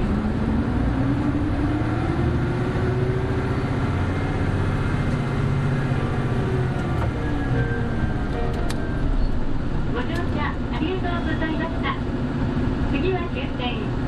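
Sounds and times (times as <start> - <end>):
bus diesel engine pulling hard: 0.0 - 14.0.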